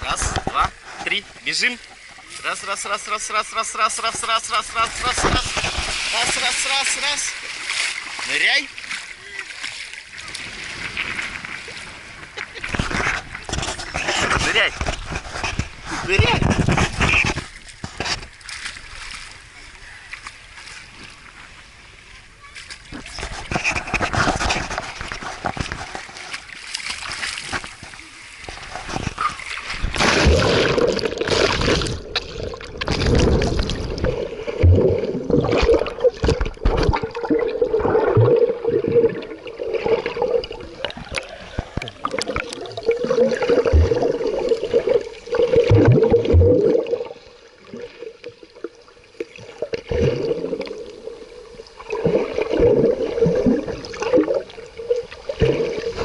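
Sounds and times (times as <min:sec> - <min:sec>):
sea water splashing and gurgling: 0:00.0 - 0:56.0.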